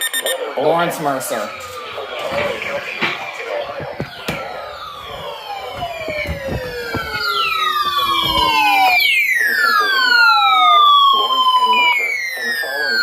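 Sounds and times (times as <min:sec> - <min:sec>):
siren-like tones sliding down: 0:00.4 - 0:13.0.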